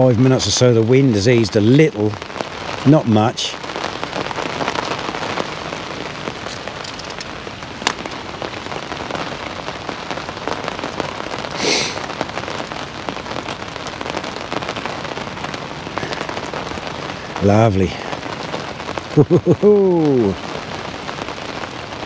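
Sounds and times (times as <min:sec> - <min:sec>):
rain pattering on umbrella: 0:00.0 - 0:22.0
rustle: 0:00.0 - 0:22.0.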